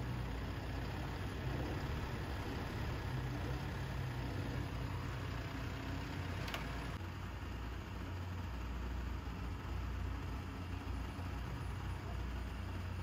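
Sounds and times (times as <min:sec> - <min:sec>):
diesel engine running low: 0:00.0 - 0:13.0.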